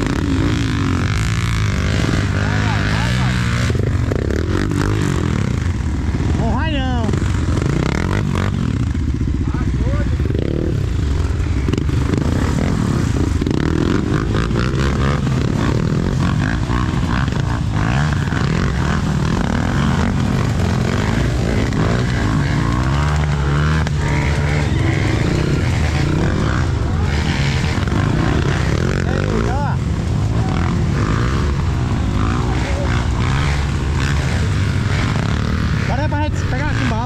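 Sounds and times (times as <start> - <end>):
trail bike engines revving: 0.0 - 37.0.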